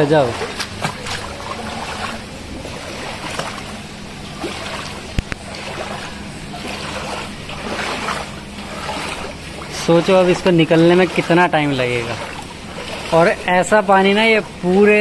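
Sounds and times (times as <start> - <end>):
floodwater sloshing around legs: 0.0 - 15.0.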